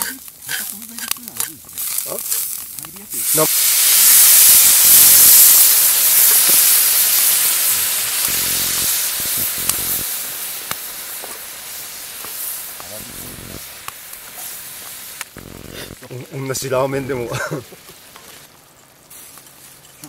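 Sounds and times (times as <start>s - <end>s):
hiss and sizzle in hot pan: 0.0s - 20.0s.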